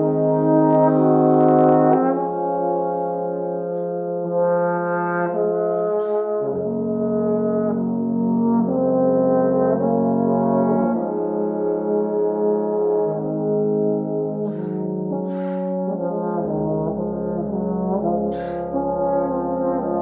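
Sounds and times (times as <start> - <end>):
slow instrumental chords: 0.0 - 20.0.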